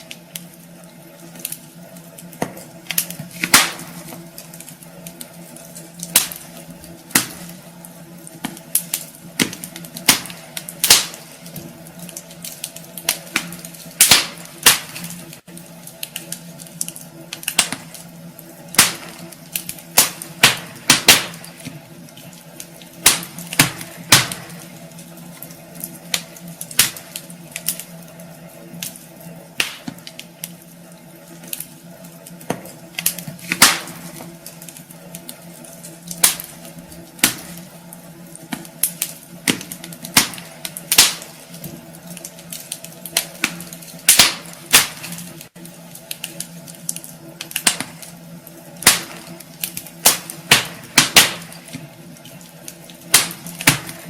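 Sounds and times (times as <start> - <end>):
steady low hum: 0.0 - 54.0
wood fire crackling: 0.0 - 54.0.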